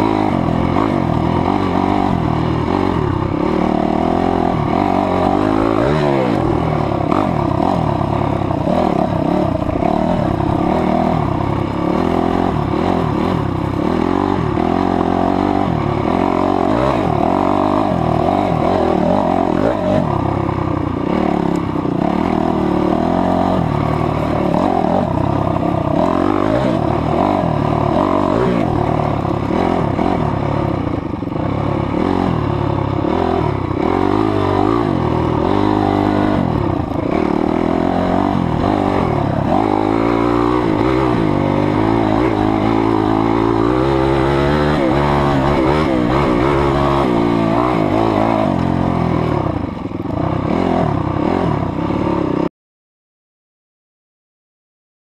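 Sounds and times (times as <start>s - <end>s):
dirt bike engine revving: 0.0s - 52.5s.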